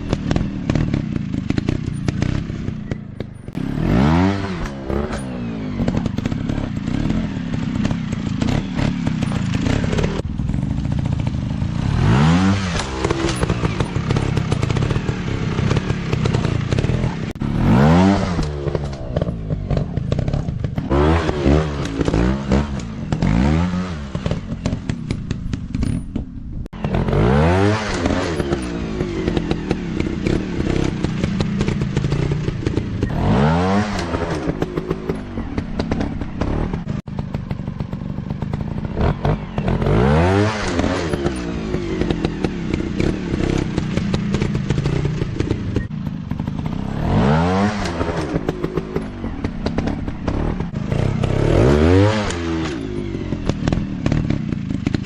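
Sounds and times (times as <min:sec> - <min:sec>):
clatter: 0:00.0 - 0:55.0
dirt bike engines revving: 0:00.0 - 0:55.0.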